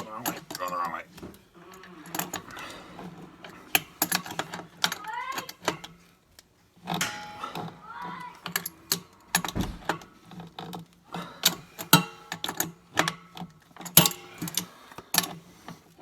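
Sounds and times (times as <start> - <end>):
metallic clicks and rattles of tools: 0.0 - 16.0.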